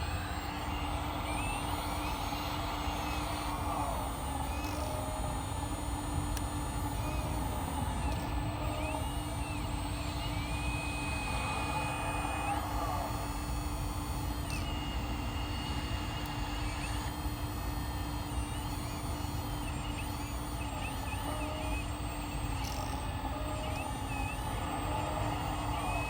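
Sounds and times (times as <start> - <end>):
electric hydraulic pump running: 0.0 - 26.0.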